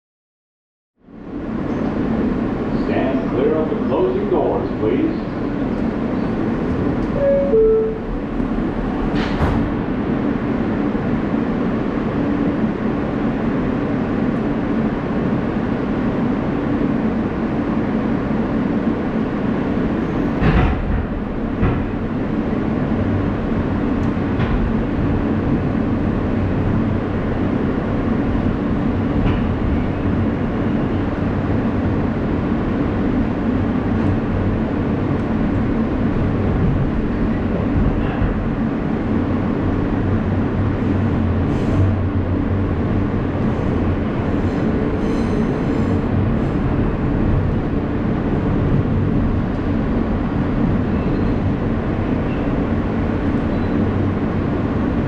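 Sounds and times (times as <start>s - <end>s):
train rumbling on rails: 1.0s - 55.0s.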